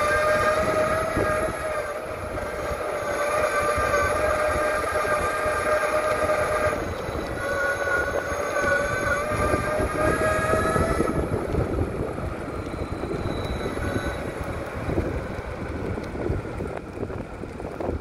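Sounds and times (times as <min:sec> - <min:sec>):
electric motors whining: 0:00.0 - 0:17.8
wind on microphone: 0:00.0 - 0:18.0.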